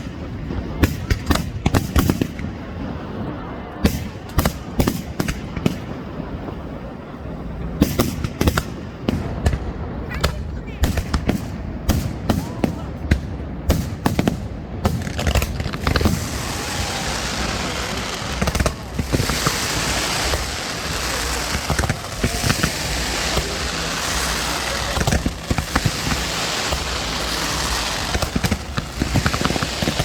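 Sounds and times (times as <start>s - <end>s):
fireworks crackling and popping: 0.0s - 2.8s, 7.8s - 30.0s.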